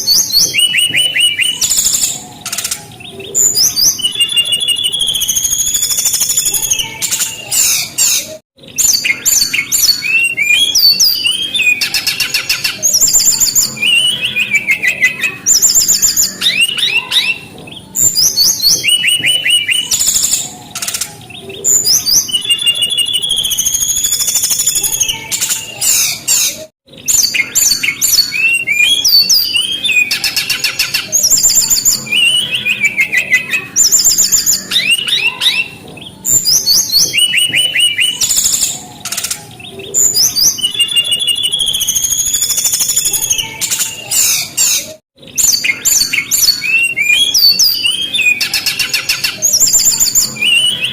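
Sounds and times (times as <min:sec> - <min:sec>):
bird singing whistles and trills: 0:00.0 - 0:50.9.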